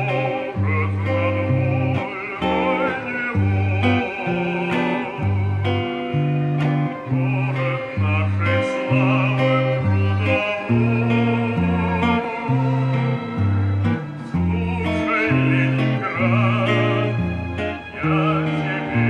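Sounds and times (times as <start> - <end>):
electric guitar picked melody: 0.0 - 19.0.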